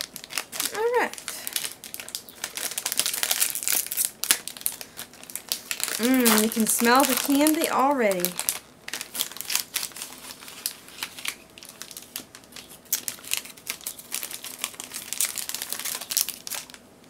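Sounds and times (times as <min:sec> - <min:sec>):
plastic bag crinkling: 0:00.0 - 0:16.9.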